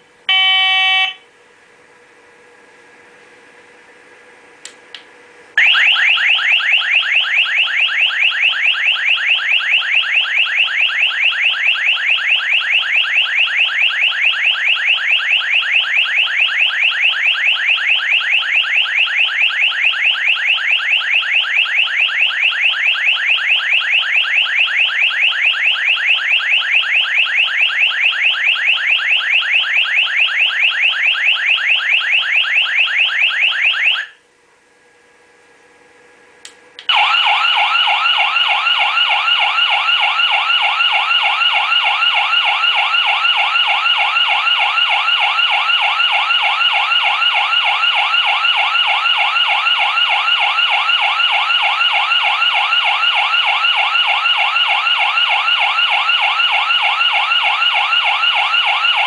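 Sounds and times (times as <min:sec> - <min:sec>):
pulsing electronic alarm warble: 0:00.3 - 0:01.2, 0:05.6 - 0:34.2, 0:36.9 - 0:59.0.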